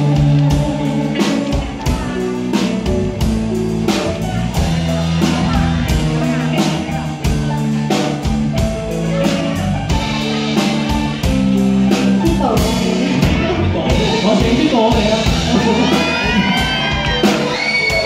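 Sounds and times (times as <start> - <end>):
live pop band playing: 0.0 - 18.0.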